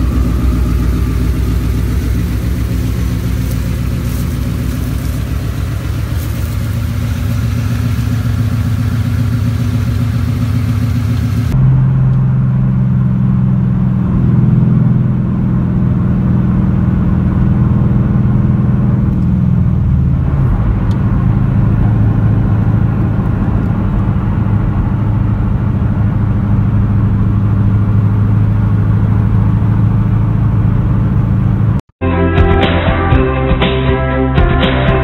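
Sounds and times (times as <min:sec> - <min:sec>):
car engine running: 0:00.0 - 0:31.8.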